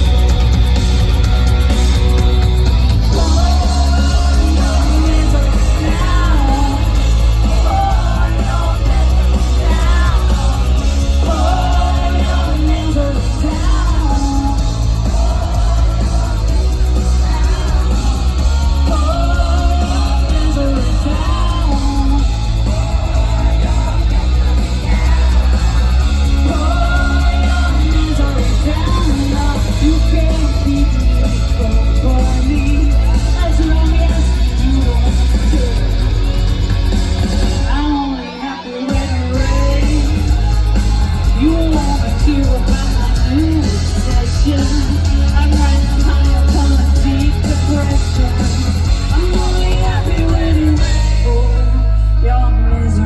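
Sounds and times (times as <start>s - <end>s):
live rock band playing: 0.0s - 53.0s
woman singing: 3.1s - 36.1s, 37.6s - 40.6s, 41.2s - 53.0s.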